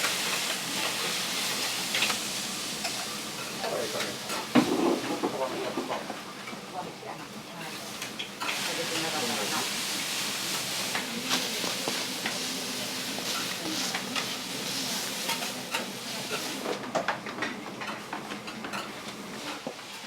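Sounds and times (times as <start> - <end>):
food sizzling on a griddle: 0.0 - 16.8.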